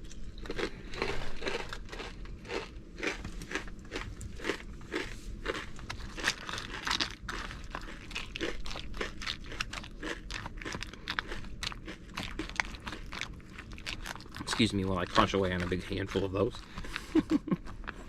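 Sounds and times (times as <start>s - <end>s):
chewing crunchy corn: 0.0s - 18.0s.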